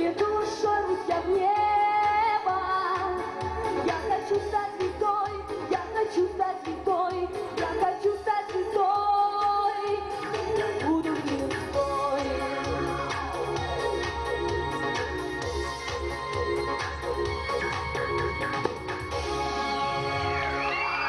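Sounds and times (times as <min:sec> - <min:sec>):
woman singing pop song: 0:00.0 - 0:19.1
music with steady beat: 0:00.0 - 0:21.0.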